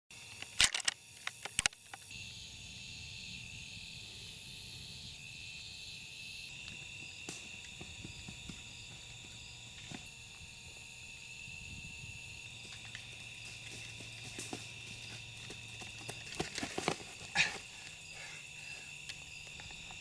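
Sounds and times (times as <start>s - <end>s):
insects chirping: 0.1s - 20.0s.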